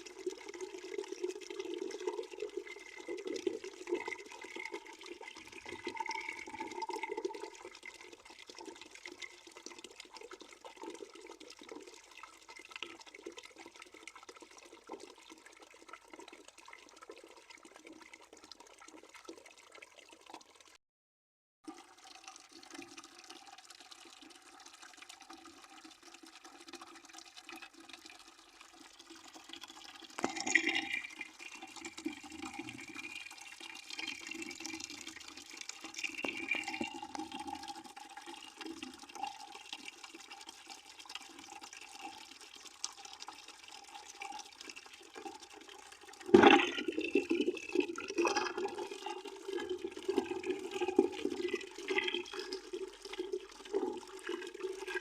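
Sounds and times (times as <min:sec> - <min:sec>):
water running into a bucket: 0:00.0 - 0:20.8, 0:21.6 - 0:55.0.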